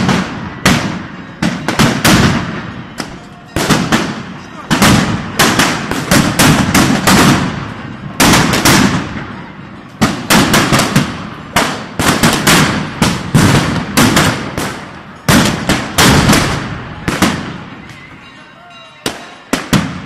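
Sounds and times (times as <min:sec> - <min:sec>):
firecrackers banging: 0:00.0 - 0:20.0.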